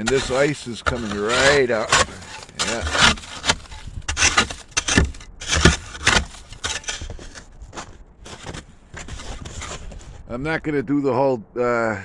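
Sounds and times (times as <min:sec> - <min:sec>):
blade scraping ice off wood: 0:00.0 - 0:10.0.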